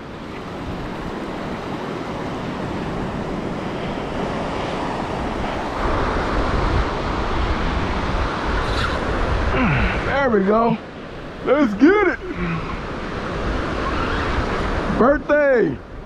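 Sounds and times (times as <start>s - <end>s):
wind buffeting microphone: 0.0s - 15.2s
surf breaking on beach: 0.0s - 15.9s.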